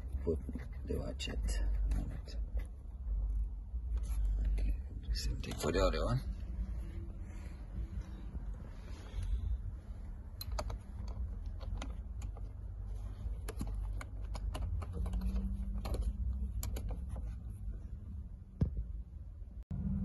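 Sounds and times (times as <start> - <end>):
rubbing and handling noise: 0.0 - 18.2.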